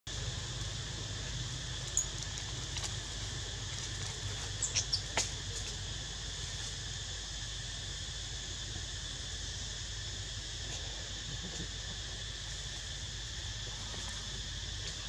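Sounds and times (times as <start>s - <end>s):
high insect drone: 0.1s - 15.0s.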